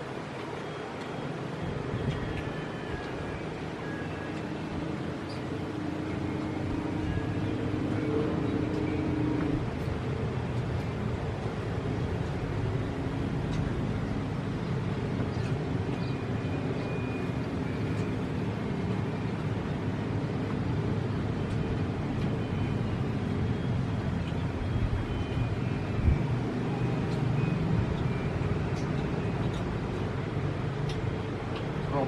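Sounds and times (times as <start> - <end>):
vehicle rumble: 0.0 - 32.0.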